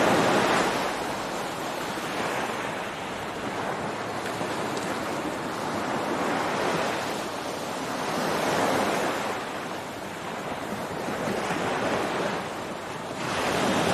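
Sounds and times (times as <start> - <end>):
waves breaking on beach: 0.0 - 13.9
wind noise on microphone: 0.0 - 13.9.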